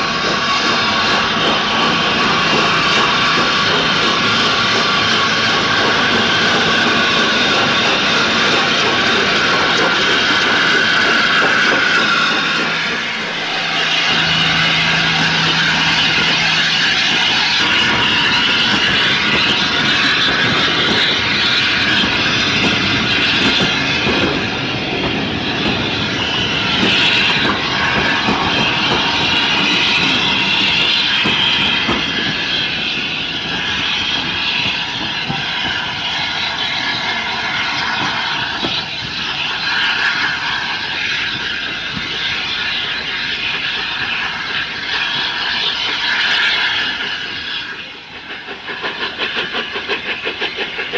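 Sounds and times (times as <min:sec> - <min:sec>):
locomotive engine rumble: 0:00.0 - 0:50.9
locomotive hiss: 0:00.0 - 0:50.9.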